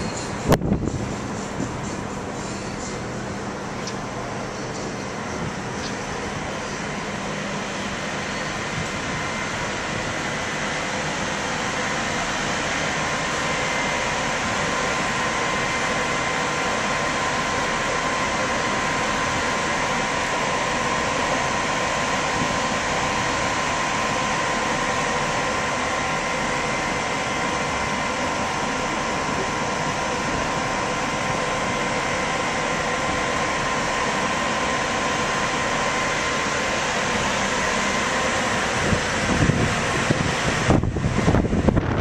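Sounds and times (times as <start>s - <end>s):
ship rushing and humming: 0.0s - 42.0s
thin steady whine: 0.0s - 42.0s.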